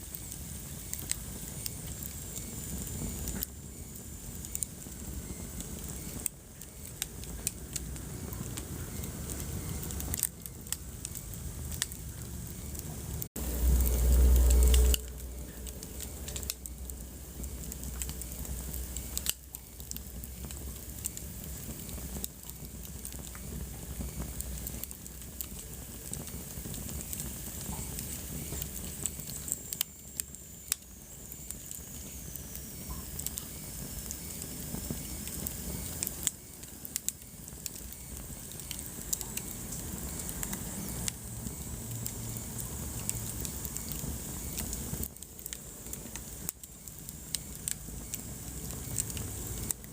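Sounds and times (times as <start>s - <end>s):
fire hiss: 0.0s - 49.9s
wood fire crackling and popping: 0.0s - 49.9s.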